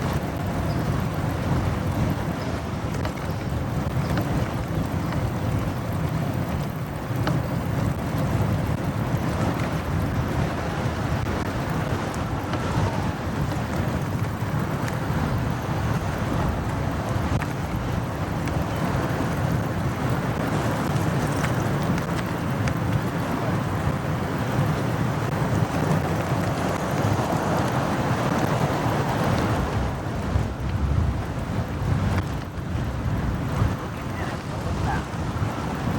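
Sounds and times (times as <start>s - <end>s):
motorcycle engine rumble: 0.0s - 35.9s
passing traffic: 0.0s - 35.9s
wind on microphone: 0.0s - 35.9s.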